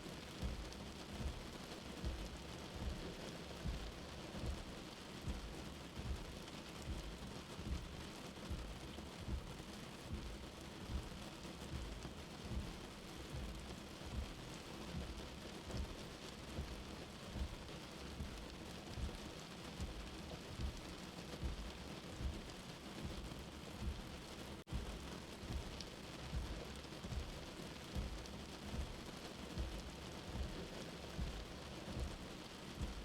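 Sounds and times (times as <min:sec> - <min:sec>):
steady rain: 0:00.0 - 0:33.0
slow heartbeat thumping: 0:00.3 - 0:33.0.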